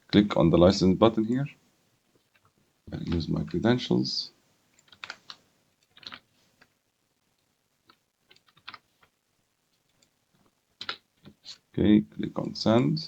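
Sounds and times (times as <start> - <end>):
faint keyboard typing: 0.0 - 12.8.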